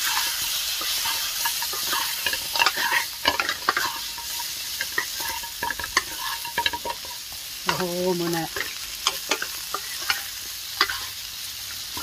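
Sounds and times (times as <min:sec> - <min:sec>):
spatula scraping and knocking pan: 0:00.0 - 0:11.2
chicken sizzling in hot oil: 0:00.0 - 0:12.0.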